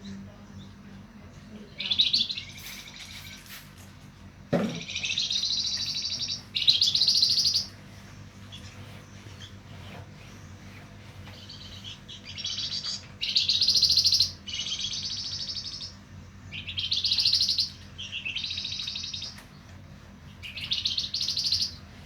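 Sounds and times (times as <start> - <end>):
steady low hum: 0.0 - 22.0
bird buzzy trilled song: 1.6 - 3.9, 4.6 - 22.0.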